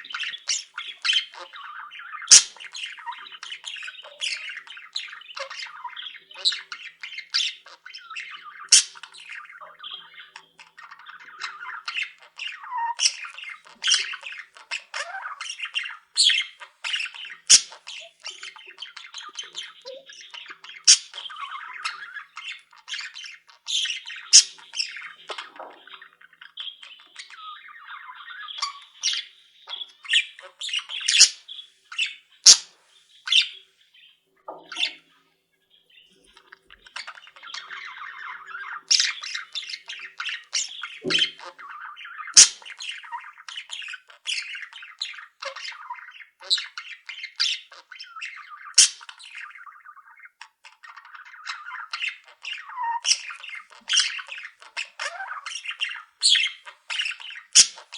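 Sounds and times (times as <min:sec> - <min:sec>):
budgerigars chattering and squawking: 0:00.0 - 0:57.9.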